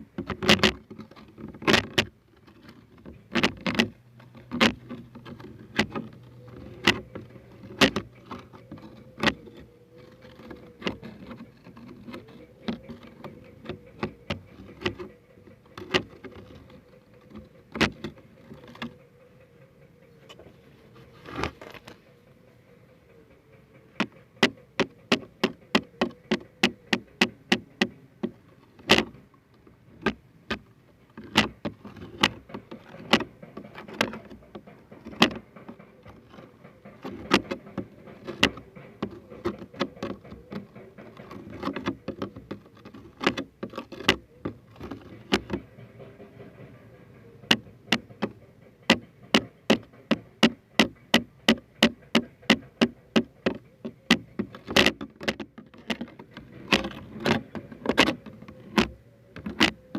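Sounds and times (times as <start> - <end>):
soft scratchy rustle: 0.0 - 19.2, 20.2 - 22.4, 23.9 - 59.9.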